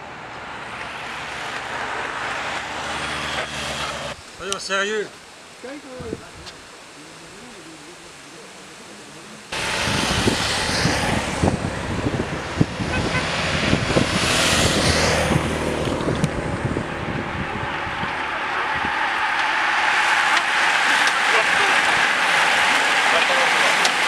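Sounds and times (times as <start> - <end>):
vehicles passing close by: 0.0 - 5.8, 9.2 - 24.0.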